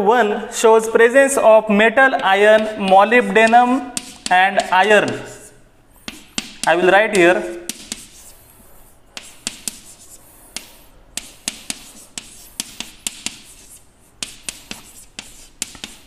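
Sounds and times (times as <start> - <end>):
chalk tapping on blackboard: 1.9 - 16.0
chalk scratching on blackboard: 2.2 - 16.0.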